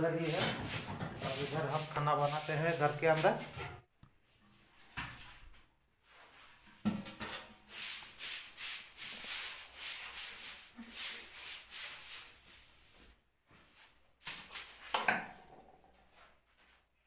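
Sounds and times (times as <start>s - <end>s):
broom sweeping floor: 0.0s - 15.4s, 16.0s - 16.9s.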